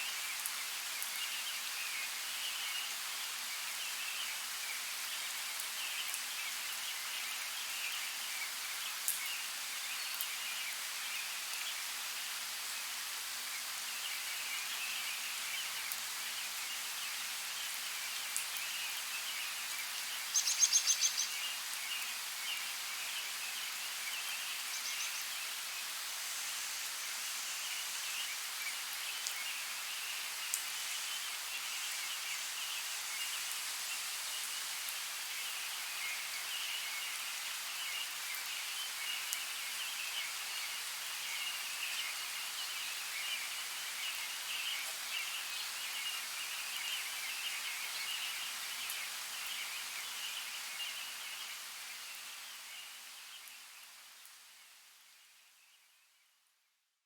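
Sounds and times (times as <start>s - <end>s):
light rain falling: 0.0s - 56.6s.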